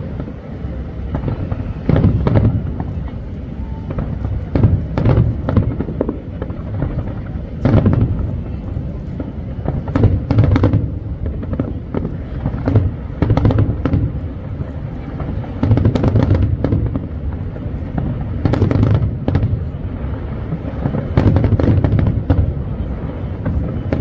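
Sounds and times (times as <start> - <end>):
continuous low rumble: 0.0 - 24.0
fireworks bangs and crackles: 0.0 - 24.0.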